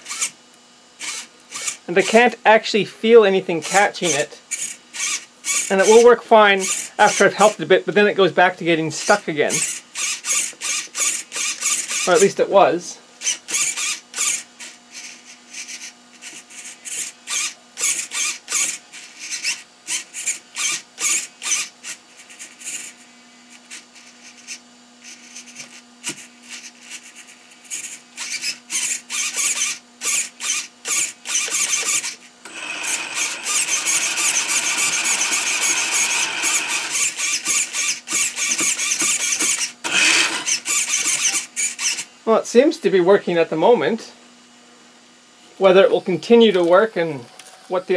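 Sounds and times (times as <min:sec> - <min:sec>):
servo whining: 0:01.0 - 0:02.6, 0:03.4 - 0:07.6, 0:09.0 - 0:42.1.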